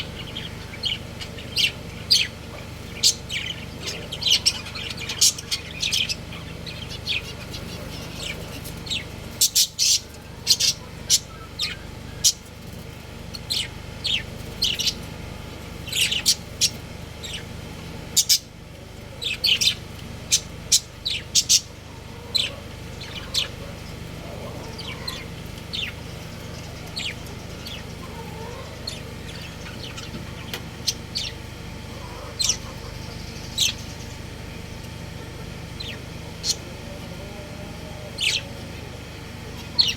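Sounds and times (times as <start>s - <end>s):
budgerigars chirping: 0.0s - 39.9s
steady low hum: 0.0s - 39.9s.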